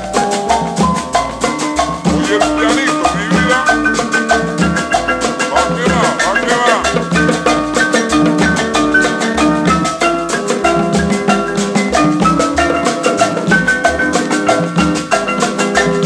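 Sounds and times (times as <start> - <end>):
cumbia music: 0.0 - 16.0.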